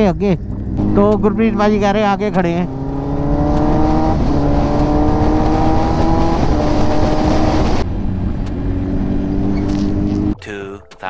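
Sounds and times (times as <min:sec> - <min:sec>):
motorcycle engine accelerating: 0:00.0 - 0:10.4
wind rush: 0:00.4 - 0:10.4.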